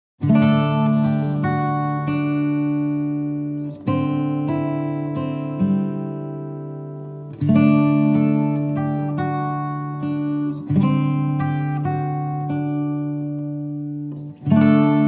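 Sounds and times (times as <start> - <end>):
guitar chords strummed: 0.2 - 15.0.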